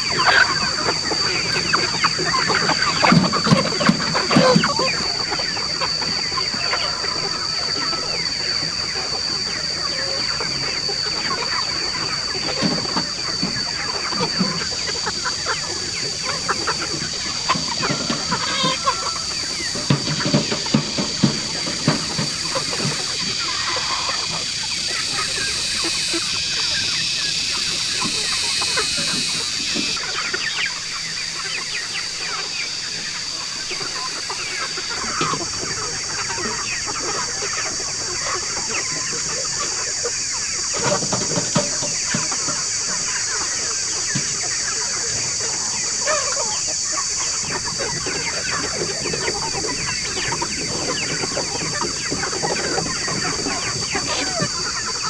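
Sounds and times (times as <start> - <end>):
chickens clucking: 0.0 - 55.0
steady high-pitched hiss: 0.0 - 55.0.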